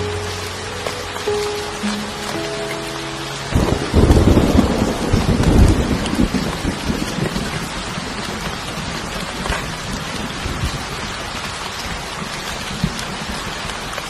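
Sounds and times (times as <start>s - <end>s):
raindrops striking surface: 0.0s - 14.0s
steady rain hiss: 0.0s - 14.0s.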